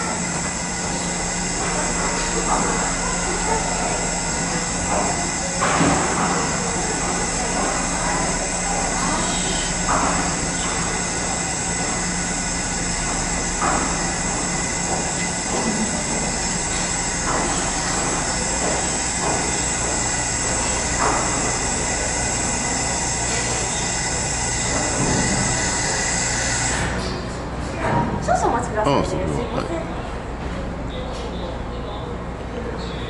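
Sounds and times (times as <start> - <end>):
ship machinery drone: 0.0 - 33.0.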